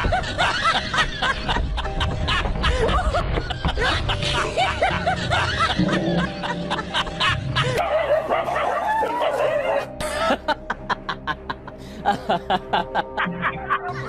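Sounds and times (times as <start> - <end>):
laughter: 0.0 - 8.1, 10.0 - 14.0
background music: 0.0 - 14.0.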